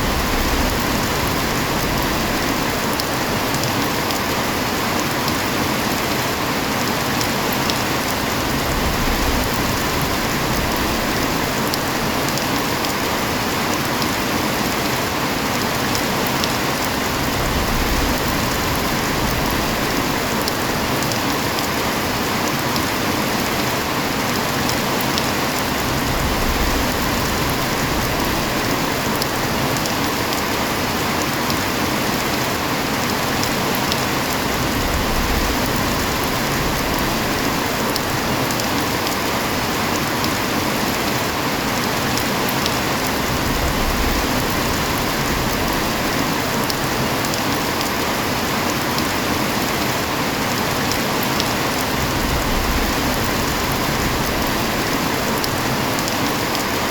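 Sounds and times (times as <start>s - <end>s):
heavy rain hiss: 0.0s - 56.9s
ticks of rain drops: 0.0s - 56.9s.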